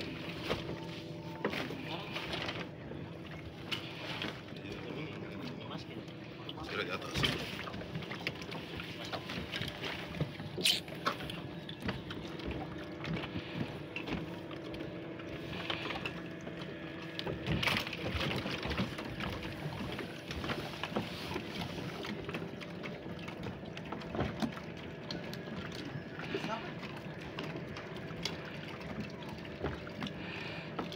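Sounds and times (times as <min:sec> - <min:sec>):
water lapping around boats: 0:00.0 - 0:30.9.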